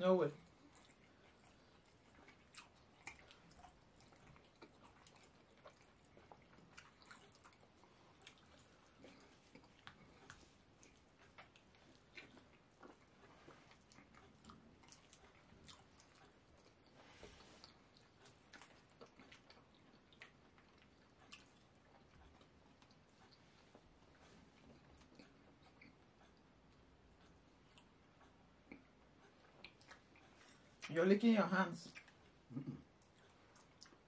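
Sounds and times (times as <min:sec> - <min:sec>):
soft chewing and smacks: 0:00.0 - 0:34.0.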